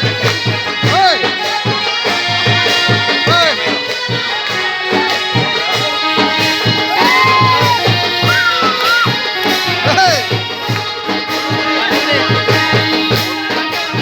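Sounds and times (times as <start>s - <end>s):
background music with steady beat: 0.0s - 14.0s.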